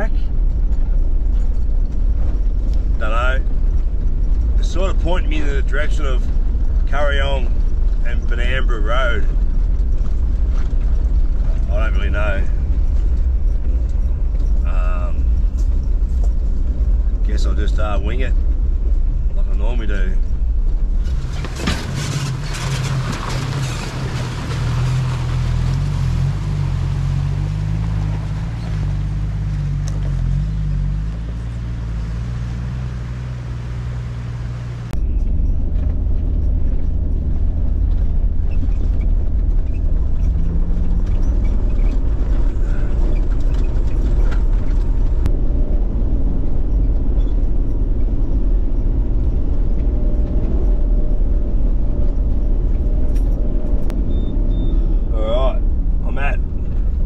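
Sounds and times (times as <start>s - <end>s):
road rumble: 0.0s - 57.0s
vehicle engine driving: 0.0s - 57.0s.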